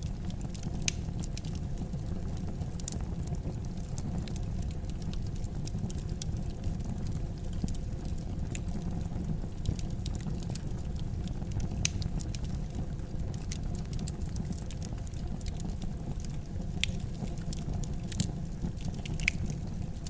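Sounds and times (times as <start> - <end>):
fire crackling in fireplace: 0.0 - 20.0.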